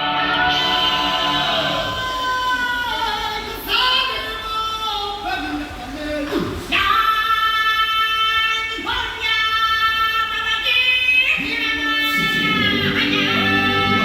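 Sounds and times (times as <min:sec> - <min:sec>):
show music: 0:00.0 - 0:07.2, 0:09.9 - 0:14.0
high voice singing long notes: 0:00.0 - 0:14.0.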